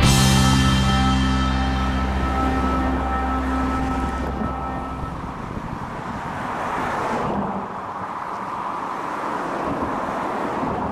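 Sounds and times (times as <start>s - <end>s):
wind: 0.0s - 10.9s.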